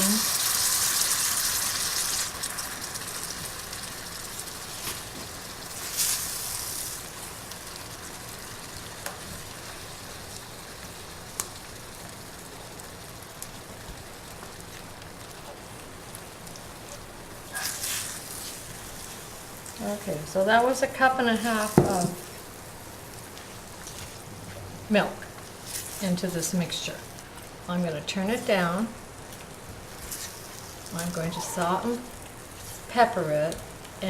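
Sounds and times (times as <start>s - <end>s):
gravy sizzling in a frying pan: 0.0s - 34.0s.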